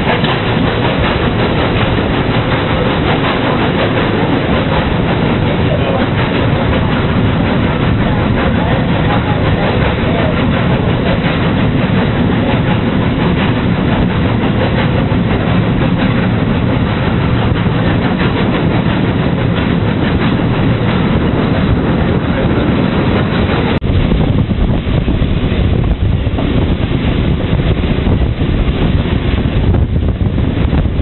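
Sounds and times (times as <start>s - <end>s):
steam train rumbling and rattling: 0.0s - 31.0s.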